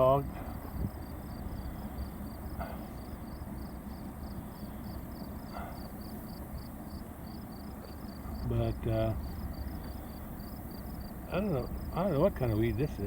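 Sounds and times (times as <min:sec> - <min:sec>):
insects chirping: 0:00.0 - 0:13.0
low steady rumble: 0:00.0 - 0:13.0.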